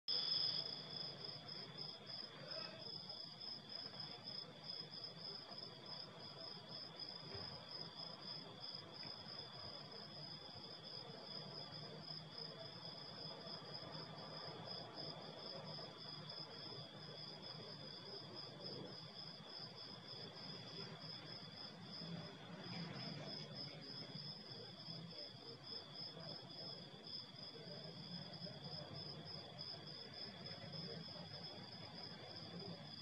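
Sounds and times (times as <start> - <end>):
crickets chirping: 0.1 - 33.0.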